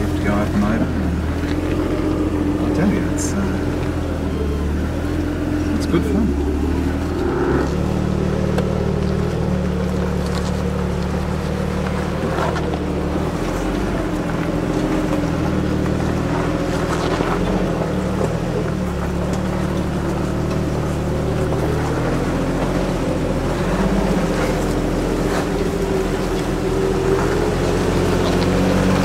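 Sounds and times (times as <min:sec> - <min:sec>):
engine low drone: 0:00.0 - 0:29.0.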